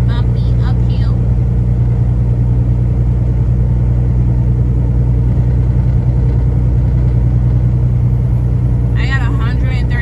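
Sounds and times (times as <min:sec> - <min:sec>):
road noise: 0:00.0 - 0:10.0
truck diesel engine rumble: 0:00.0 - 0:10.0.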